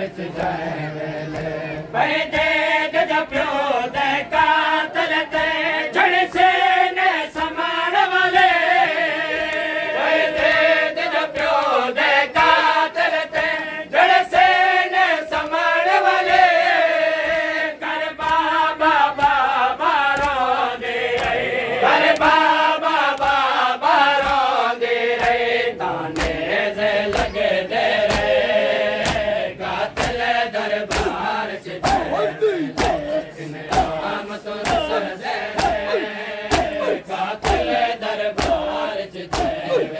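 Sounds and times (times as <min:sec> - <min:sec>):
men chanting a lament in unison: 0:00.0 - 0:39.9
hands slapping chests: 0:01.3 - 0:06.6, 0:09.2 - 0:17.6, 0:18.2 - 0:39.9.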